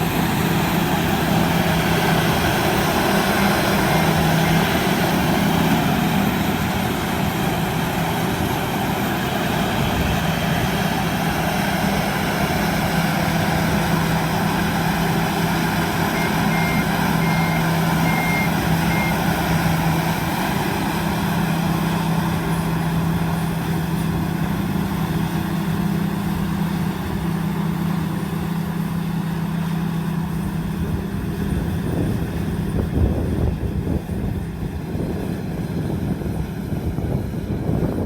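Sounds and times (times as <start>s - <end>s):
combine harvester engine running: 0.0s - 38.0s.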